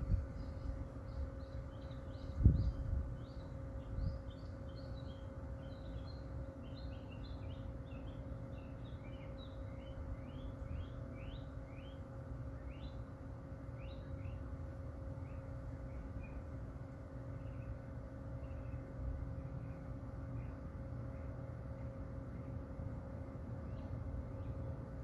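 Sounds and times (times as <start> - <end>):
small birds chirping: 0.0 - 14.6, 15.2 - 22.7, 23.6 - 24.8
faint steady hum: 0.0 - 25.0.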